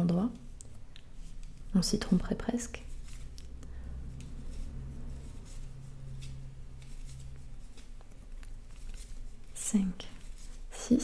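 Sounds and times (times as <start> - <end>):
yarn rubbing: 0.0 - 11.0.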